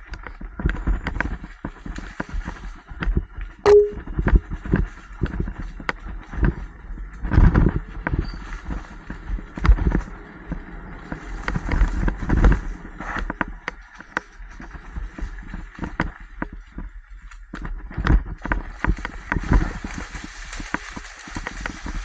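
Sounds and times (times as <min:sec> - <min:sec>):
bike tyres rolling over dirt: 0:00.0 - 0:03.6, 0:04.5 - 0:22.0
wind rumble on microphone: 0:00.0 - 0:22.0.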